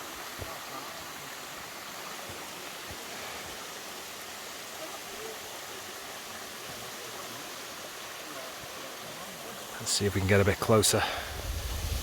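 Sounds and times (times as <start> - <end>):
faint distant voices: 0.0 - 11.4
waterfall rushing: 0.0 - 12.0.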